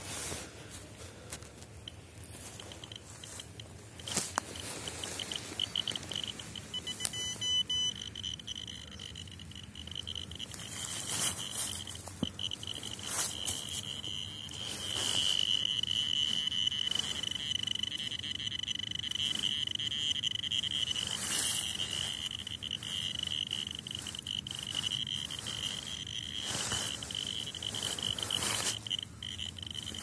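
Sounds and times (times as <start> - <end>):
dosimeter beeping: 1.6 - 30.0.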